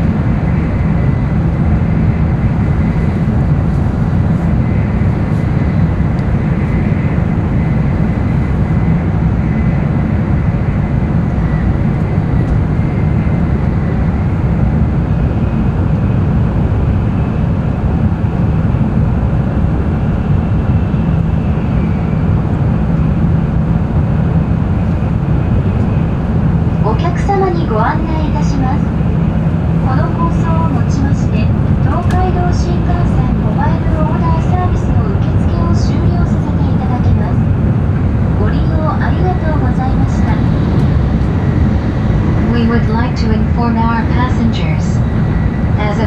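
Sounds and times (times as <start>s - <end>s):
train cabin rumble: 0.0s - 46.0s.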